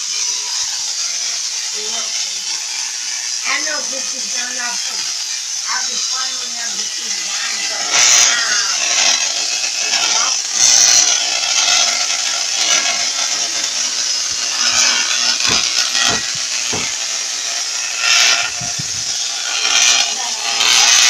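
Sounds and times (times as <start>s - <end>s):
tesla coil buzzing crackle: 0.0s - 21.0s
sharp electrical snaps: 1.4s - 21.0s.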